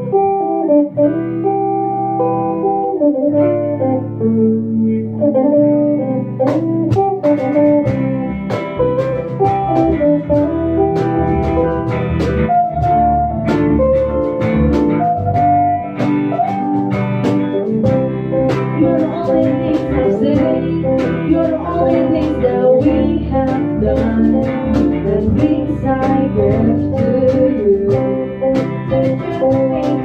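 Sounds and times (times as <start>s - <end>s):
guitar playing: 0.0s - 30.0s.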